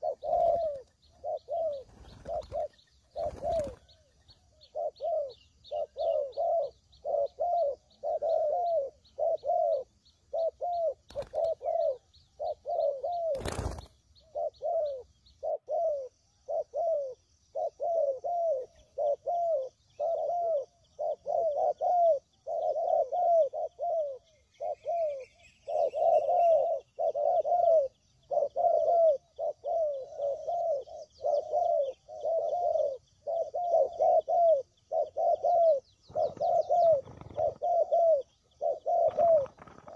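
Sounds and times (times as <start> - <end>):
doves cooing: 0.0 - 39.9
faint high chirping: 0.0 - 39.9.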